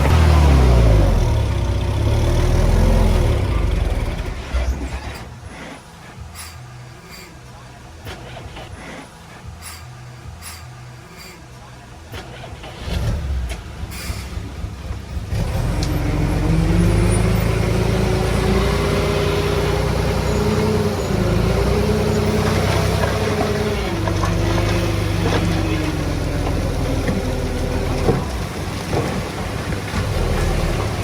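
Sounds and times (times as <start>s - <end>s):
diesel engine revving under load: 0.0s - 31.0s.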